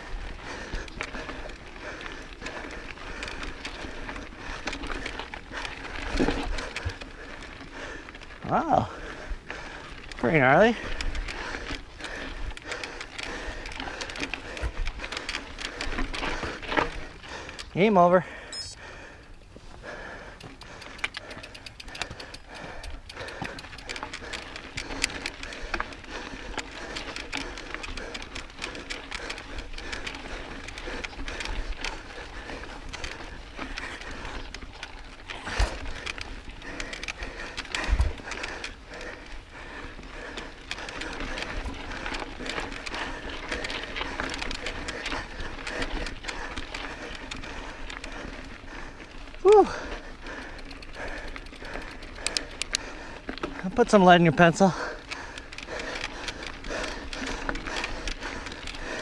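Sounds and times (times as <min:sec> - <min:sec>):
mountain bike rattling over rocks: 0:00.0 - 0:59.0.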